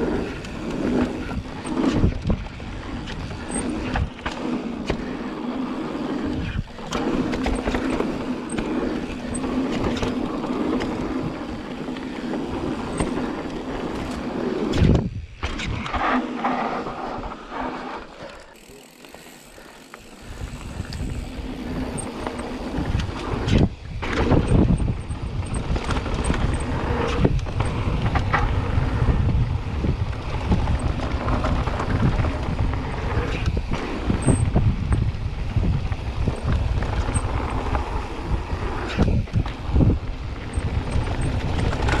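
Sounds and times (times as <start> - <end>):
wind noise on microphone: 0.0 - 5.1, 5.8 - 16.1, 20.2 - 42.0
bike rattling over bumps: 0.0 - 42.0
bike tyres rolling on dirt: 0.0 - 42.0.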